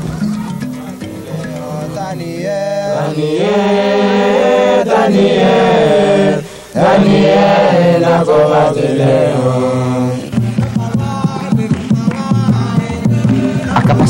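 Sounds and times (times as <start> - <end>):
men chanting in unison: 0.8 - 14.0.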